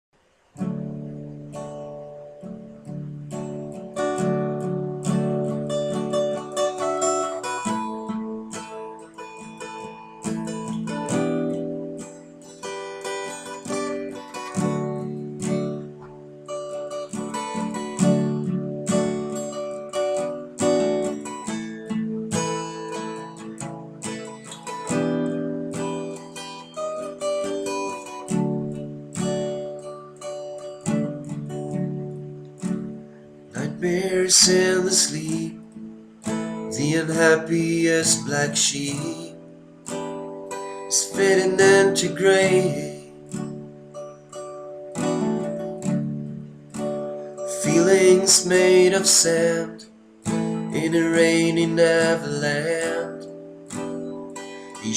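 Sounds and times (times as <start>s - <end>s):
acoustic guitar strumming: 0.2s - 54.9s.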